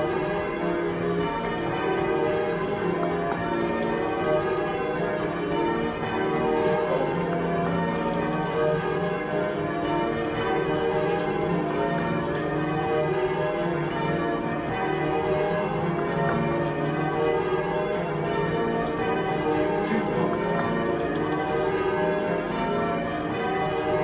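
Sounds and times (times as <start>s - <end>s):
bells ringing: 0.0s - 24.0s.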